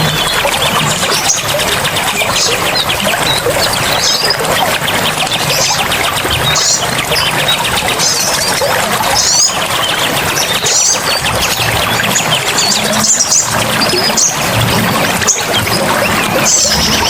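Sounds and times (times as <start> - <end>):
birds chirping: 0.0 - 17.0
rushing background noise: 0.0 - 17.0
ticking bird trill: 0.0 - 17.0.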